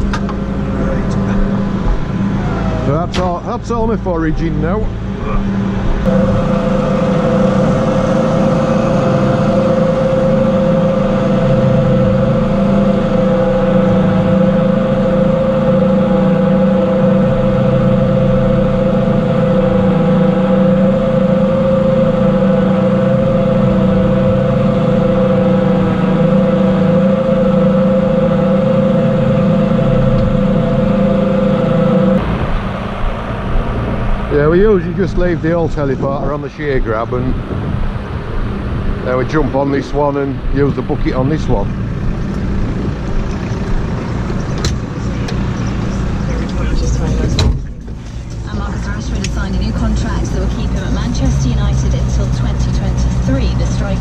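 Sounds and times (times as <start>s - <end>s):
feed mixer auger whine: 0.0s - 54.0s
tractor engine drone: 0.0s - 54.0s.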